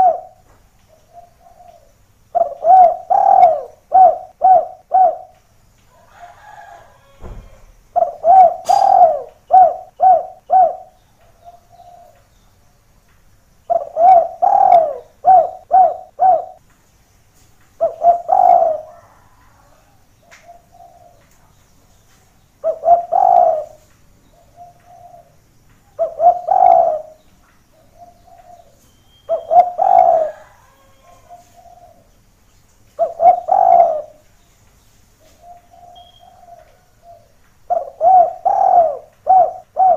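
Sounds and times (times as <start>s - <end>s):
dove cooing: 0.0s - 0.4s, 1.0s - 5.4s, 6.1s - 12.2s, 13.7s - 16.6s, 17.8s - 21.2s, 22.6s - 25.4s, 26.0s - 32.1s, 33.0s - 34.2s, 35.3s - 39.9s.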